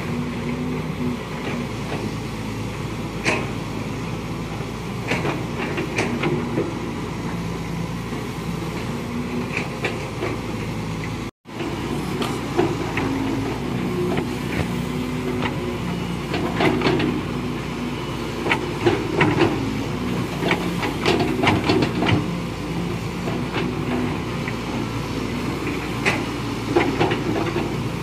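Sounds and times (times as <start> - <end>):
excavator diesel engine: 0.0 - 28.0.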